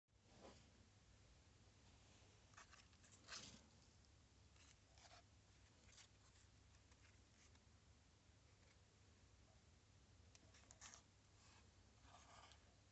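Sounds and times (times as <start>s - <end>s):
low steady hum: 0.2s - 12.9s.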